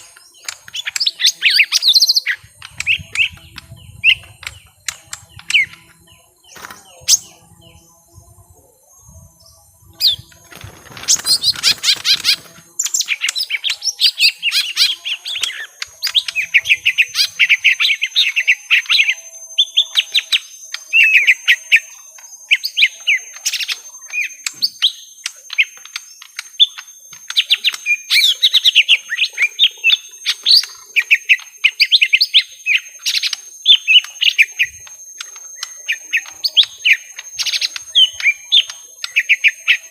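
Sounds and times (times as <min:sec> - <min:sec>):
birds chattering chirps: 0:00.0 - 0:39.9.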